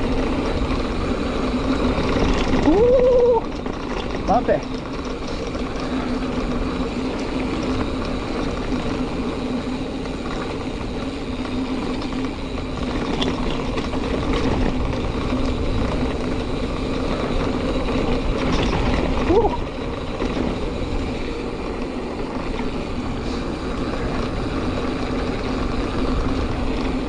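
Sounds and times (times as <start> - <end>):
bike tyres rolling on dirt: 0.0 - 27.0
constant hum: 0.0 - 27.0.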